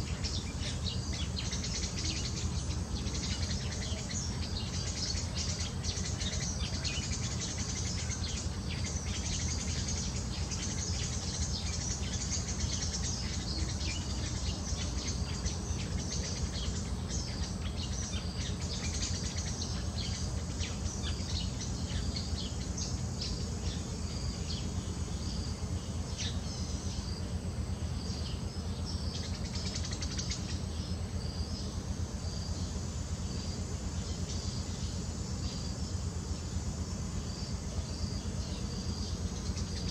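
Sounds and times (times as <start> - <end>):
birds chirping: 0.0 - 39.9
insects buzzing: 0.0 - 39.9.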